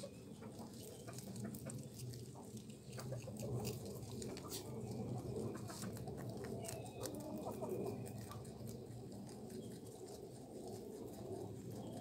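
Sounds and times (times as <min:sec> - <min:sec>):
rabbits chewing leaves: 0:00.0 - 0:12.0.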